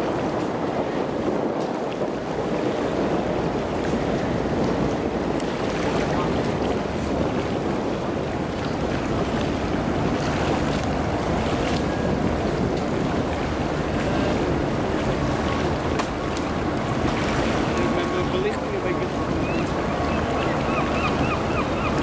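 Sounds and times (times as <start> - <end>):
ship engine running low: 0.0 - 22.0
water rushing: 0.0 - 22.0
wind on microphone: 0.0 - 22.0.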